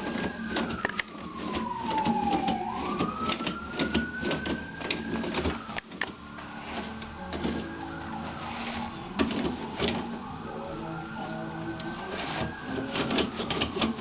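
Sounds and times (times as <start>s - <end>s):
toilet paper roll rattling: 0.0s - 7.8s, 8.6s - 10.4s, 11.0s - 14.0s
whining tone: 0.0s - 14.0s.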